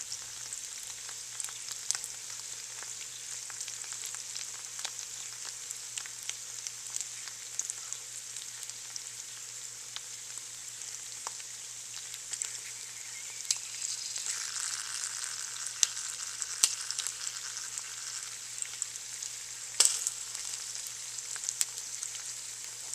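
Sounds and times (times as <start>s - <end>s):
chicken skin sizzling in a pan: 0.0s - 22.9s
fat crackling and popping: 0.0s - 22.9s.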